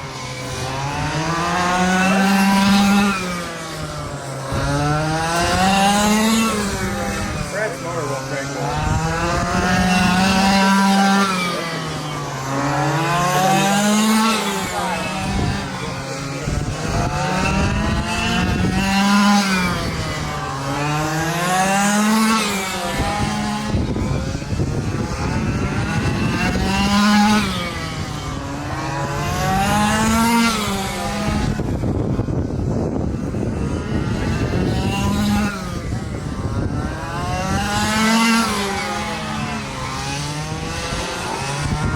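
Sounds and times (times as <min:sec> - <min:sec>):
rc truck engines revving: 0:00.0 - 0:41.9.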